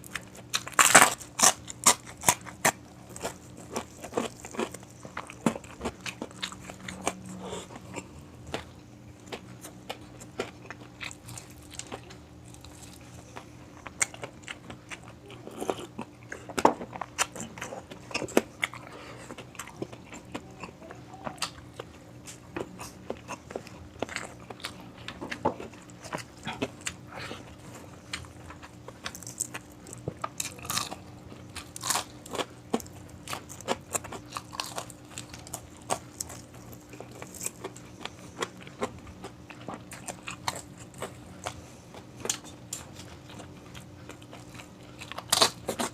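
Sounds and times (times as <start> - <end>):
person chewing crisp food: 0.0 - 45.9.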